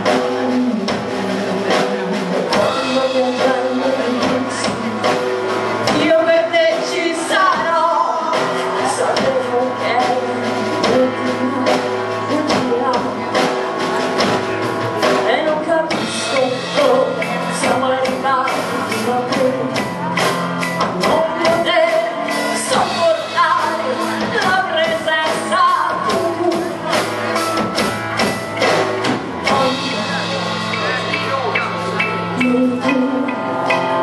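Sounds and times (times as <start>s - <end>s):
woman singing: 0.0s - 27.5s, 28.6s - 30.4s, 32.0s - 34.0s
bass guitar: 0.0s - 34.0s
electric guitar: 0.0s - 34.0s
steady drum beat: 0.0s - 34.0s.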